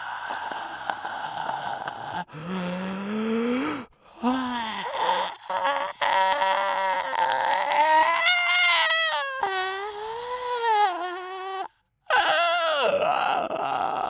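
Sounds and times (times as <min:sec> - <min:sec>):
voice wailing and whimpering: 0:00.5 - 0:14.0.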